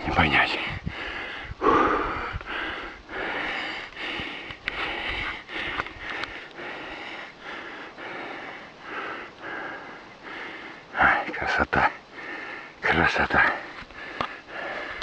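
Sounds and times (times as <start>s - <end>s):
man breathing hard: 0.6s - 11.0s, 12.0s - 12.8s, 13.4s - 15.0s.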